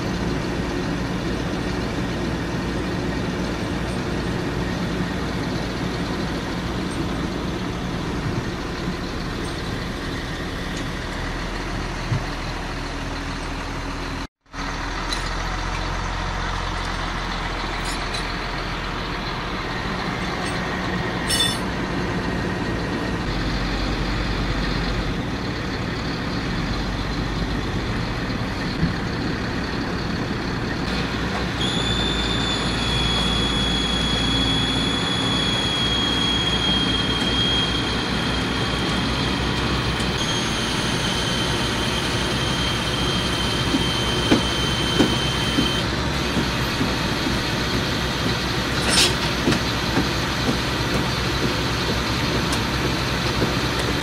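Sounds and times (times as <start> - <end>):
diesel trucks idling: 0.0 - 54.0.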